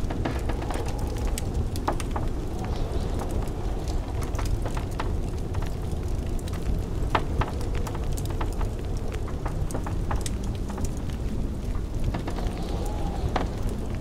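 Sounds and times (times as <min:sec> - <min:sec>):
blizzard wind rumbling: 0:00.0 - 0:14.0
wood fire crackling: 0:00.0 - 0:14.0.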